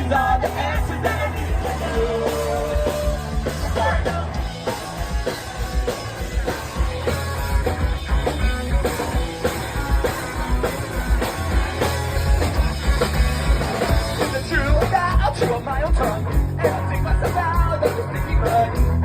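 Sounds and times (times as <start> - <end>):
drum beat: 0.0 - 19.0
rock band playing: 0.0 - 19.0.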